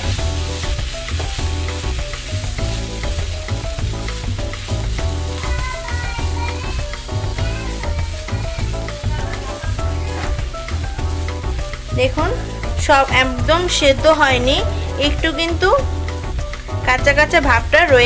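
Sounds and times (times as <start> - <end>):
background music with bass beat: 0.0 - 18.0
food sizzling in a frying pan: 0.0 - 18.0
spatula scraping a pan: 0.4 - 15.5.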